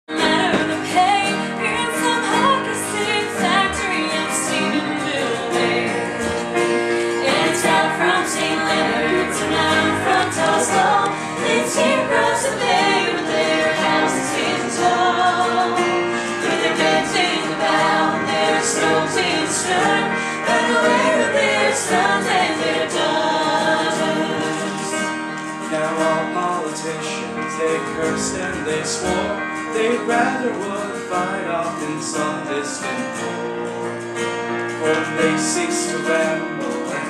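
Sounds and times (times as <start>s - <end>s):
group of voices singing: 0.1s - 33.7s, 34.7s - 37.0s
electric keyboard: 0.1s - 37.0s.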